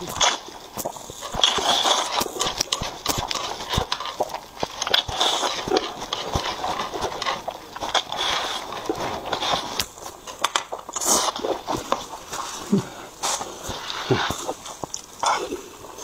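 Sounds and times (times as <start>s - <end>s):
slurping and chewing noodles: 0.0s - 16.0s.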